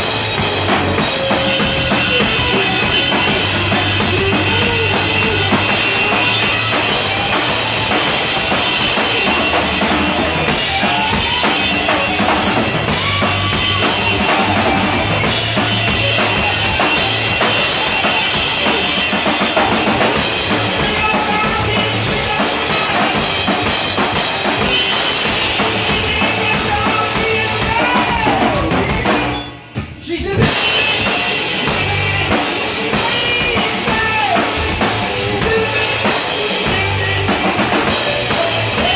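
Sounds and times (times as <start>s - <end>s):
drum kit bass drum and snare: 0.0s - 38.9s
loud rock music: 0.0s - 38.9s.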